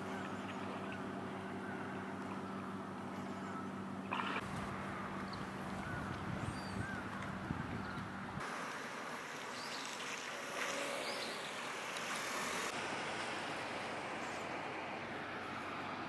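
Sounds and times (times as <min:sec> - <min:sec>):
distant motorboat engines: 0:00.0 - 0:16.0
water noise: 0:00.0 - 0:16.0
wind: 0:00.0 - 0:16.0.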